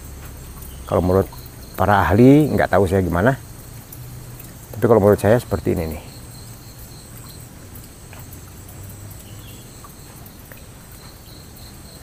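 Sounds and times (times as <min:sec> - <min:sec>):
faint high insect trill: 0:00.0 - 0:12.0.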